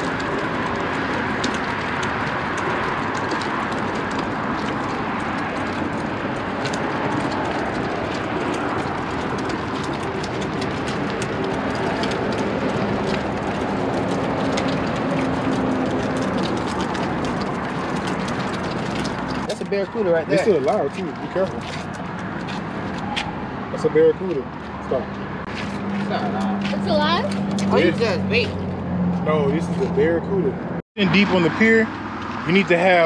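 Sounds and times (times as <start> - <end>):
highway traffic rushing: 0.0 - 33.0.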